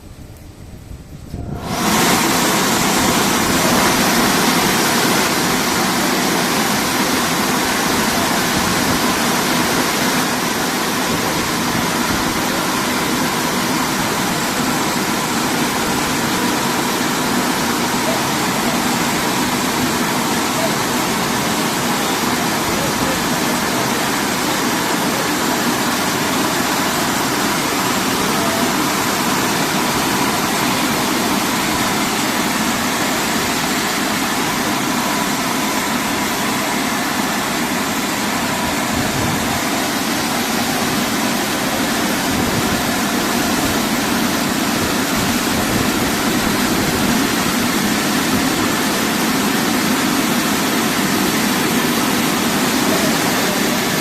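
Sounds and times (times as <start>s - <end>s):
car wash machine rushing: 0.0s - 54.0s.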